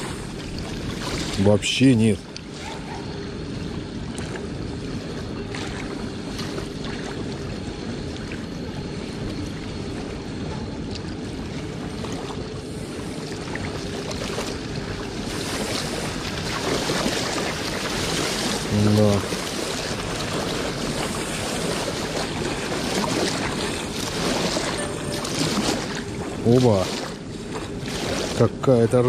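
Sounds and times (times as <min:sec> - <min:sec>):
small waves lapping on shore: 0:00.0 - 0:29.0.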